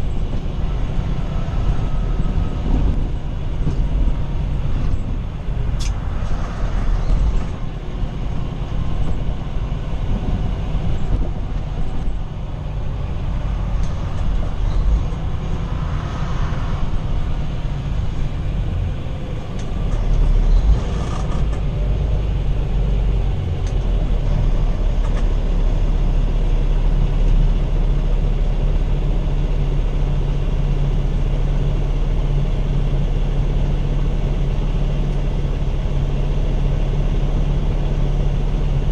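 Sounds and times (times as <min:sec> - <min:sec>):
road and wind noise: 0:00.0 - 0:38.9
truck engine drone: 0:00.0 - 0:38.9.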